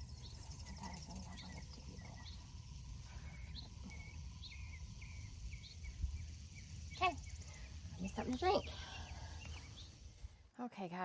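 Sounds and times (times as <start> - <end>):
faint insect trilling: 0.0 - 10.2.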